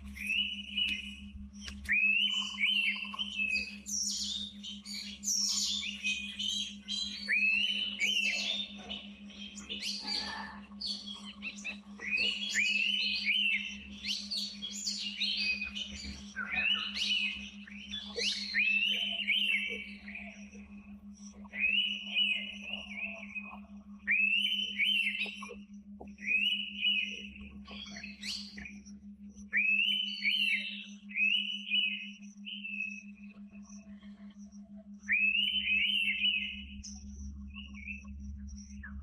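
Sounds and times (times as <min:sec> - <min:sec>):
chorus of birds chirping: 0:00.0 - 0:39.0
faint low hum: 0:00.0 - 0:39.0.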